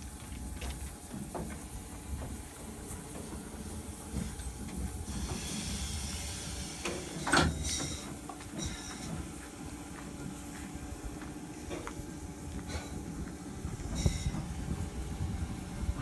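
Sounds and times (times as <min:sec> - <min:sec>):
steam hissing: 0:01.0 - 0:16.0.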